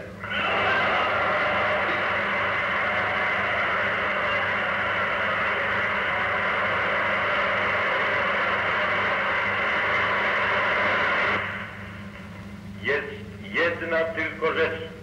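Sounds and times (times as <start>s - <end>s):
mains hum: 0.0s - 15.0s
hall applause: 0.2s - 12.3s.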